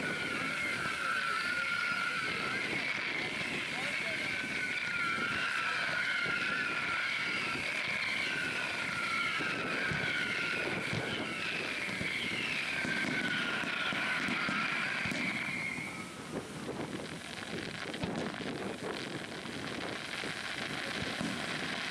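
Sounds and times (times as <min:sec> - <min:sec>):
whistling fireworks: 0:00.0 - 0:21.9
wind on microphone: 0:00.0 - 0:21.9
faint pops and crackle: 0:02.5 - 0:21.9.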